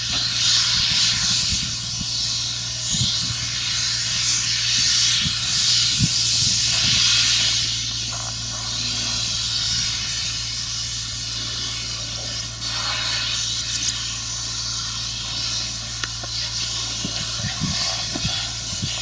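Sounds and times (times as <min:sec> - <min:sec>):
broad even hiss: 0:00.0 - 0:19.0
machine engine humming: 0:00.0 - 0:19.0.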